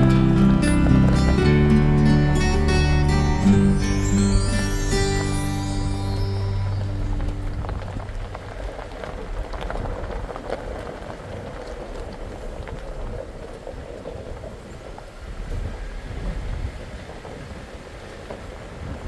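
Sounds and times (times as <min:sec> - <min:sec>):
vehicle engine rumble: 0:00.0 - 0:18.5
tyres crackling on frozen snow: 0:00.0 - 0:19.0.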